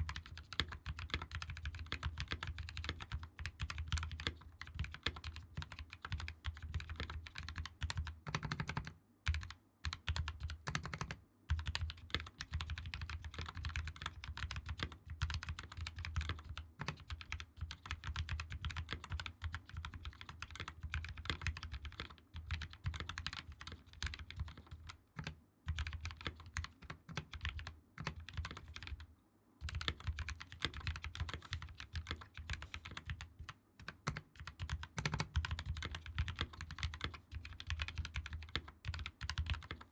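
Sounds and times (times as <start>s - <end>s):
fast mechanical keyboard typing: 0.0s - 29.0s, 29.6s - 39.9s.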